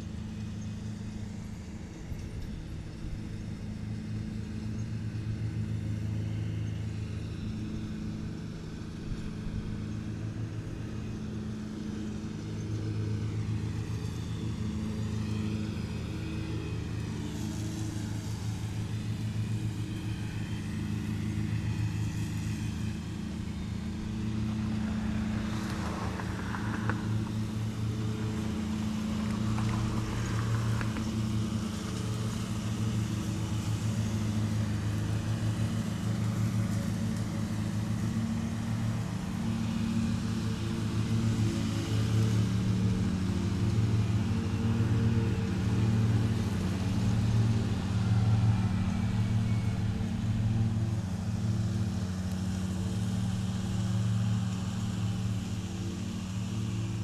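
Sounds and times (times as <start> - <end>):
riding lawn mower engines: 0.0 - 57.0.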